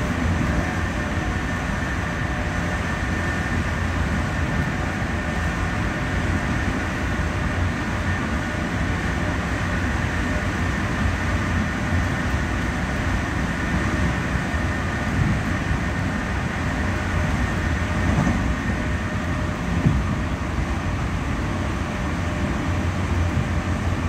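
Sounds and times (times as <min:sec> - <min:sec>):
train rumbling in tunnel: 0:00.0 - 0:24.0.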